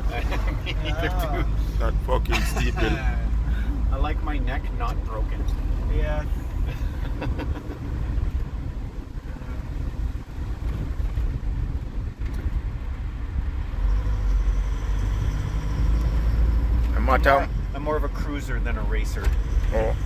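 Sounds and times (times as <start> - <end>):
vehicle road noise rumble: 0.0 - 20.0.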